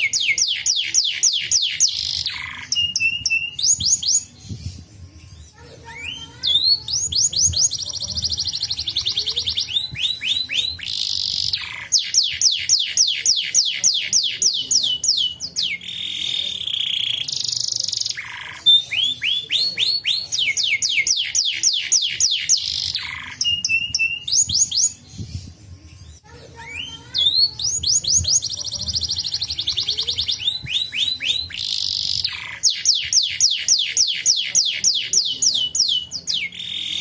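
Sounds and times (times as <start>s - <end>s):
canary singing: 0.0s - 37.0s.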